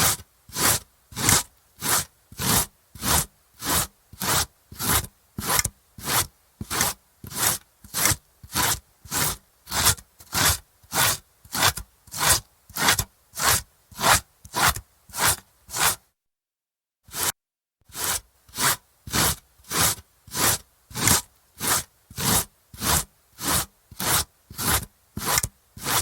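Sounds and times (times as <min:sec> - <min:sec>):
carrot grating on metal grater: 0:00.0 - 0:16.0, 0:17.1 - 0:17.3, 0:17.9 - 0:26.0.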